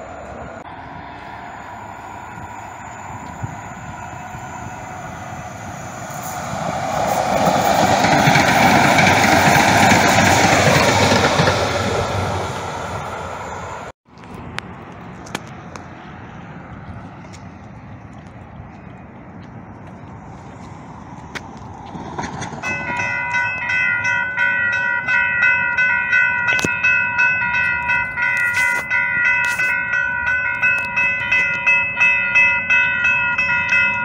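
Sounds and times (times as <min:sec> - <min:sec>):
background traffic noise: 0:00.0 - 0:34.0
electric train passing on tracks: 0:00.0 - 0:34.0.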